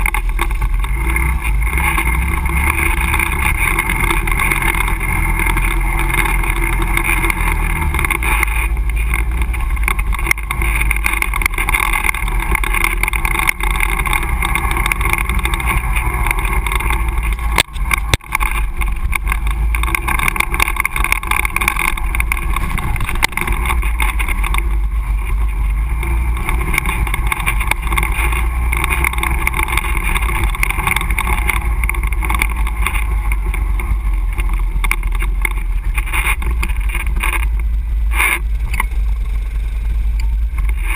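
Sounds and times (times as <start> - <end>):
quad engine running: 0.0 - 40.9.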